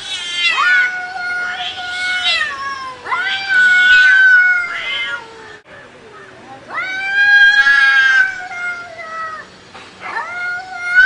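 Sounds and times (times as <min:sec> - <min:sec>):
cats yowling: 0:00.0 - 0:11.0.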